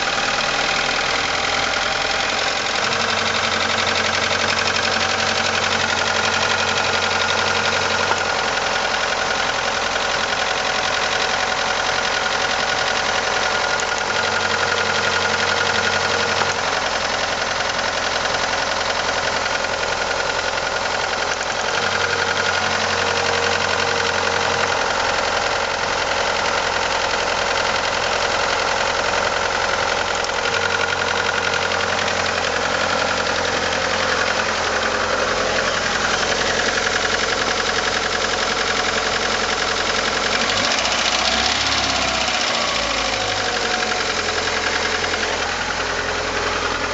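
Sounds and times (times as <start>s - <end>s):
car engine knocking: 0.0s - 46.9s.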